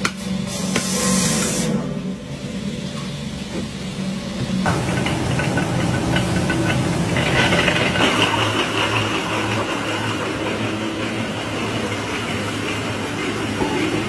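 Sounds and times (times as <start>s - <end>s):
low motor hum: 1.8s - 14.0s.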